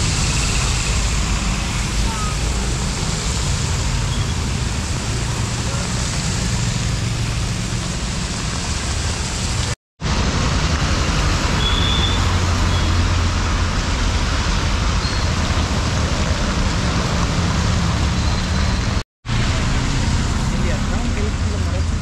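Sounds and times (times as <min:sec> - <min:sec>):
rain: 0:00.0 - 0:22.0
traffic on a wet road: 0:00.0 - 0:22.0
turbulent water churning: 0:00.0 - 0:22.0.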